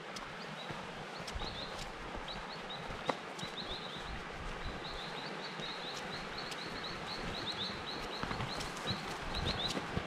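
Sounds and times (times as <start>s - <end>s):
footsteps on dirt trail: 0.0s - 10.0s
small bird chirping: 0.4s - 9.8s.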